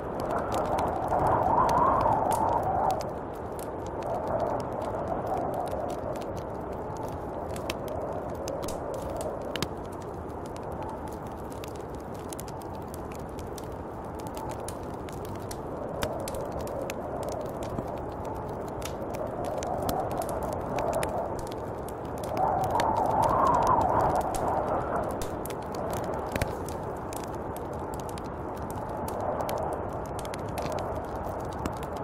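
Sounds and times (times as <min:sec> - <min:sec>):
small sharp clicks and crackles: 0:00.0 - 0:32.0
snowstorm wind blowing: 0:00.0 - 0:32.0.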